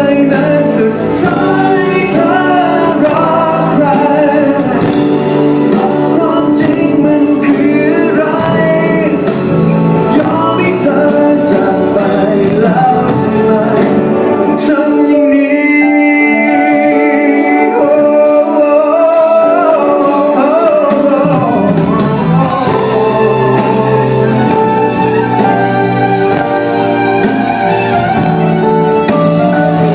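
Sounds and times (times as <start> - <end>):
band playing pop ballad: 0.0 - 29.9.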